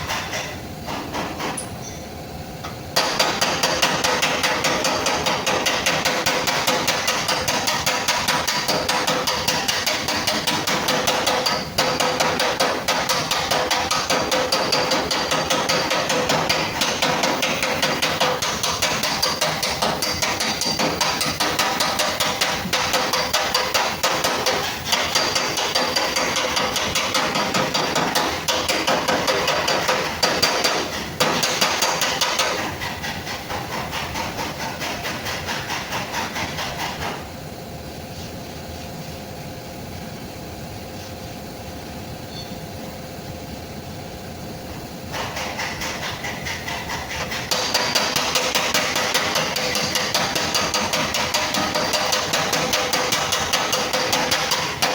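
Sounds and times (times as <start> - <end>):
rapid hammering on sheet metal: 0.0 - 1.6, 2.9 - 37.3, 45.1 - 54.9.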